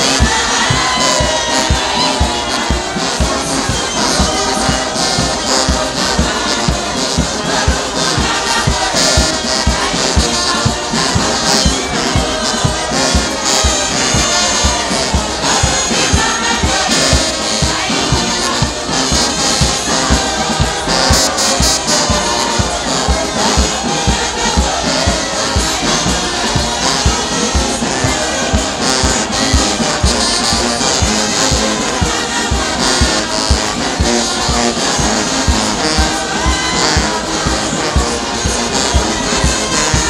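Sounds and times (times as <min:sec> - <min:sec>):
brass band music: 0:00.0 - 0:40.0
crowd voices: 0:00.0 - 0:40.0
drum beat: 0:00.0 - 0:40.0.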